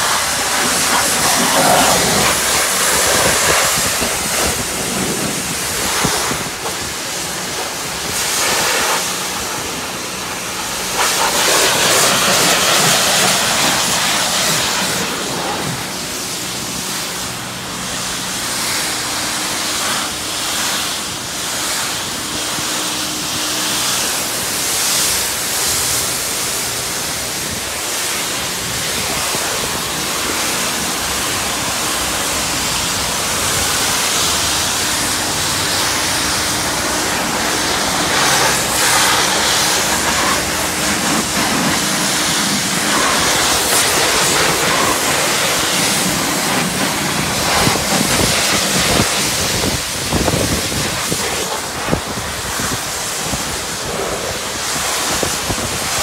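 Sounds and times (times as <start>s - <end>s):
pressure washer spraying water: 0.0s - 56.0s.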